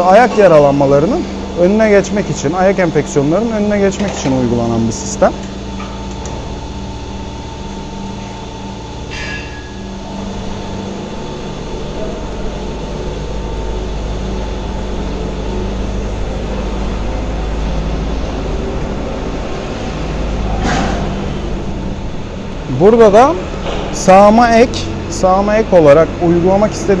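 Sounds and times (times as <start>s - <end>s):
barn machinery humming: 0.0s - 27.0s.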